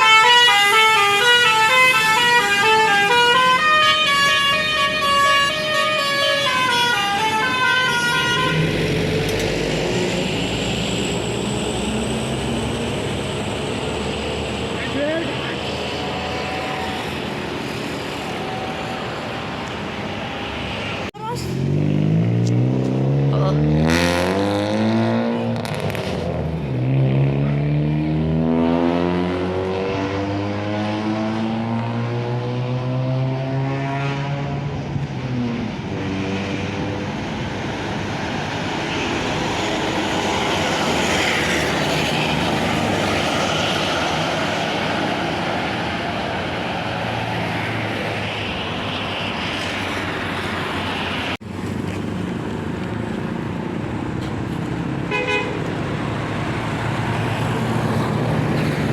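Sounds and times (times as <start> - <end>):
passing road traffic: 0.0 - 58.9
bus engine accelerating: 0.1 - 28.4, 34.7 - 58.9.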